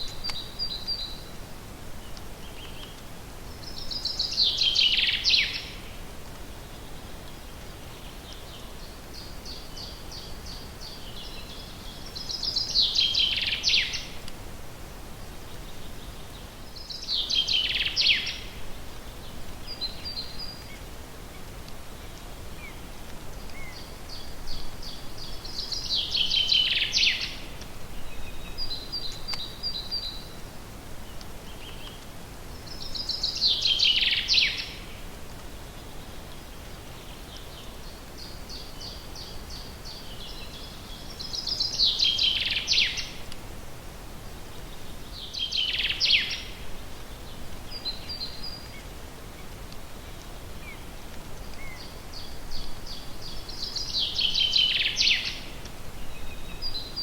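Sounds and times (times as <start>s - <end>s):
low background noise: 0.0s - 57.0s
songbird singing: 0.0s - 57.0s.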